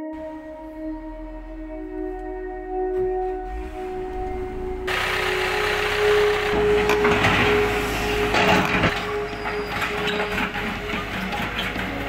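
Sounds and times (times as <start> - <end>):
steady high tone: 0.0 - 11.1
excavator running: 0.0 - 12.0
clattering: 0.2 - 12.0.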